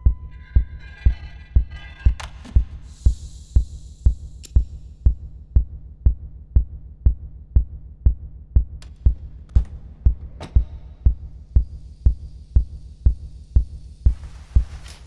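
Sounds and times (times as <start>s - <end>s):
heartbeat-like low thudding: 0.0s - 15.0s.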